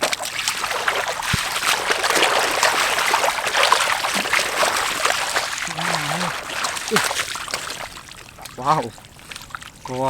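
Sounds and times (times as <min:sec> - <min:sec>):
shallow water sloshing: 0:00.0 - 0:10.0.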